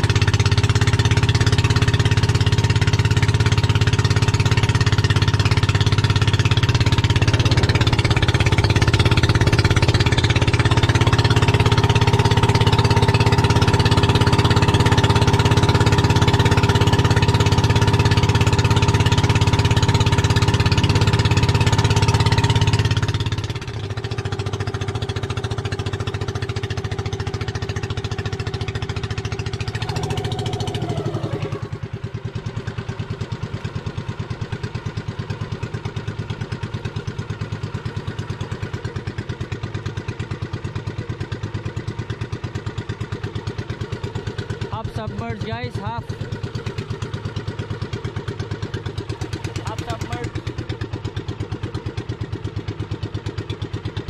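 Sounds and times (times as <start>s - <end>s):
boat engine putter: 0.0s - 54.0s.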